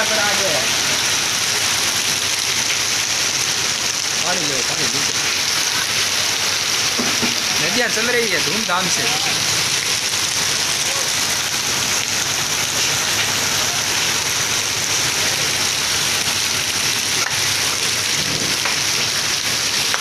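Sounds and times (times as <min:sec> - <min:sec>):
heavy rain on wet street: 0:00.0 - 0:20.0.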